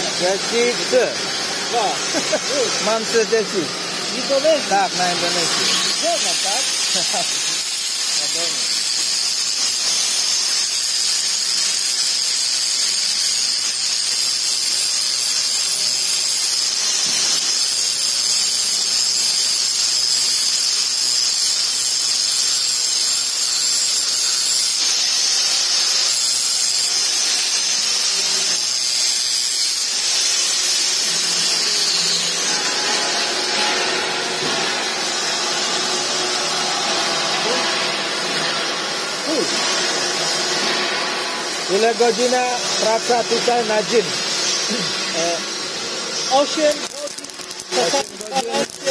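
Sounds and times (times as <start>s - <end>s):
angle grinder grinding steel: 0.0s - 48.9s.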